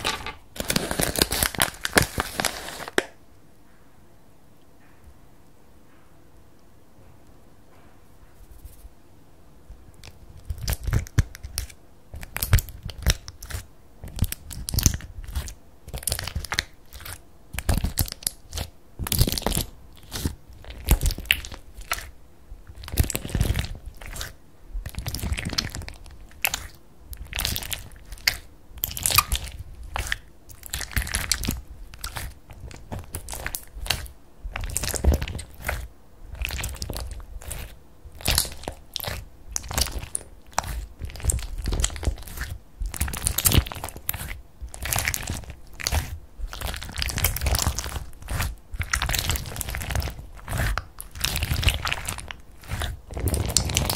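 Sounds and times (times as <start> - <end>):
slime crackling and popping: 0.0 - 3.2, 10.0 - 22.1, 22.7 - 53.9.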